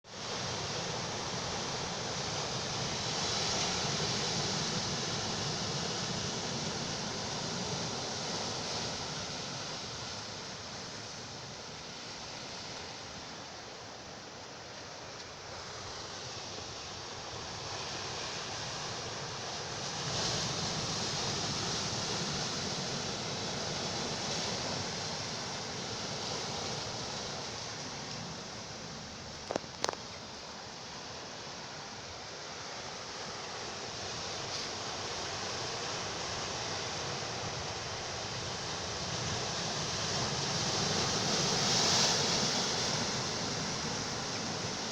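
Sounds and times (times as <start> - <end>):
sea waves washing ashore: 0.1 - 44.9.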